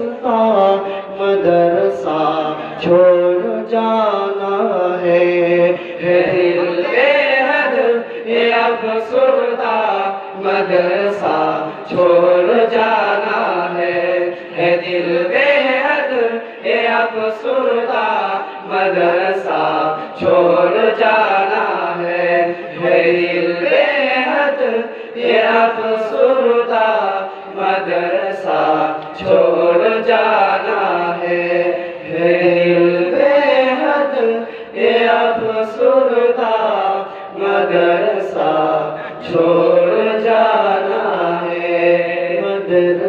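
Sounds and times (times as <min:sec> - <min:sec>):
men singing over loudspeakers: 0:00.0 - 0:43.0.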